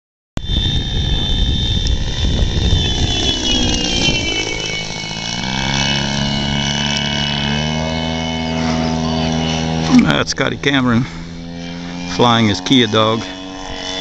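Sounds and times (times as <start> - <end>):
model airplane engine hum: 0.4 - 14.0.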